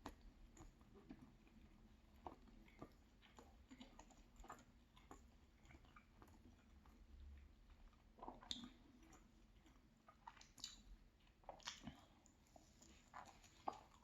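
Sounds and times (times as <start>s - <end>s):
person chewing: 0.0s - 7.0s, 7.7s - 14.0s.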